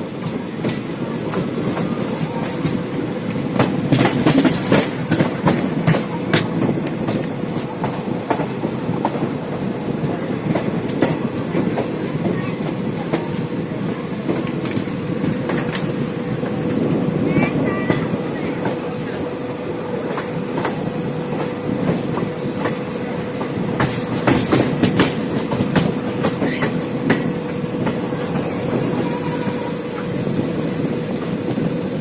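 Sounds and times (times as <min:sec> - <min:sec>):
train coaches rumbling: 0:00.0 - 0:32.0.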